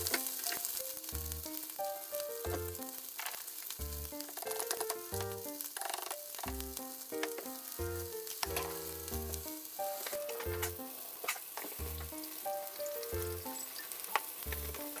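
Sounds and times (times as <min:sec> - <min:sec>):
chicken sizzling in frying pan: 0:00.0 - 0:15.0
light background melody: 0:00.0 - 0:15.0.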